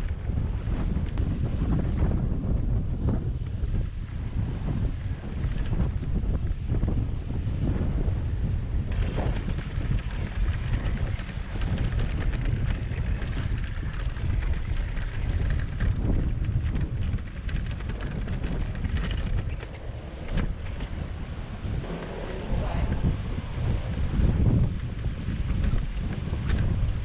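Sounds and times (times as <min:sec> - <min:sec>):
wind buffeting the microphone: 0:00.0 - 0:27.0.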